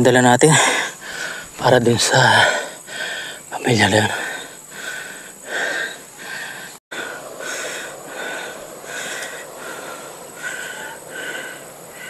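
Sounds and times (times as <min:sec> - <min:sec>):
person breathing hard: 0:00.6 - 0:01.6, 0:02.3 - 0:03.5, 0:04.1 - 0:12.0.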